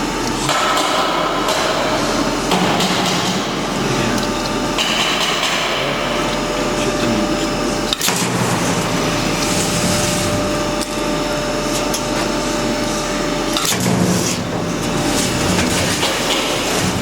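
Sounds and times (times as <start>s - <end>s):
welding machine running: 0.0s - 17.0s.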